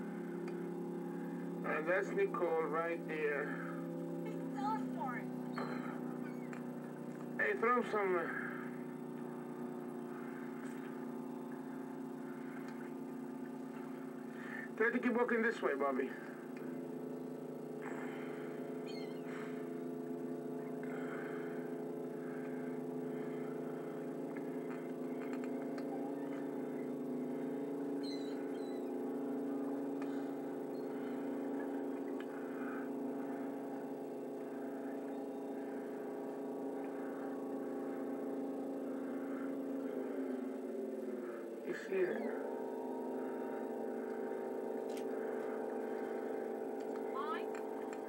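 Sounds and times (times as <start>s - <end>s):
gulls calling: 0.0s - 48.0s
motor humming: 0.0s - 48.0s.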